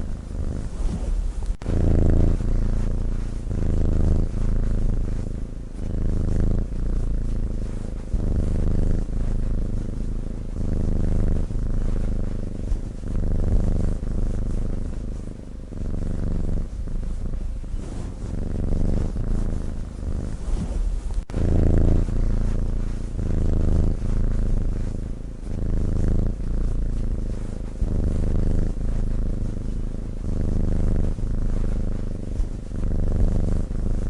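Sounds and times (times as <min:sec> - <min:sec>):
cat snoring: 0:00.0 - 0:34.0.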